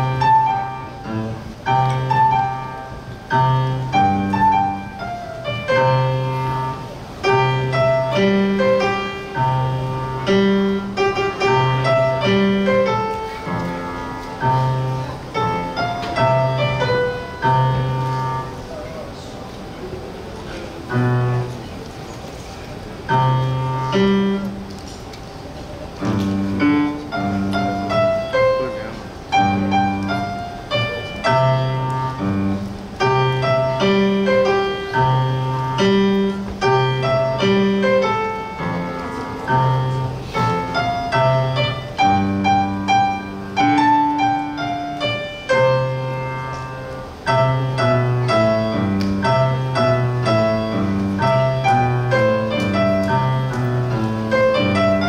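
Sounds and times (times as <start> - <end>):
piano piece: 0.0 - 55.0.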